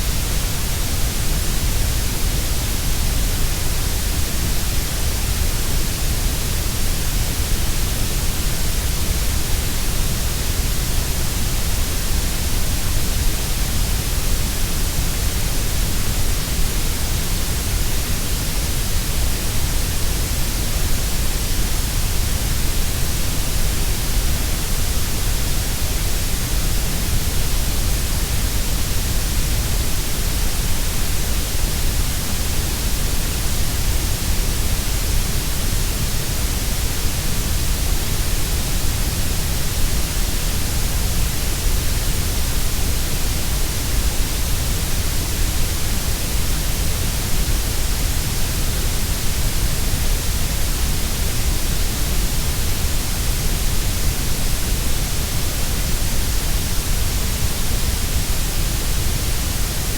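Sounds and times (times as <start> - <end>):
grey noise hiss: 0.0 - 59.9.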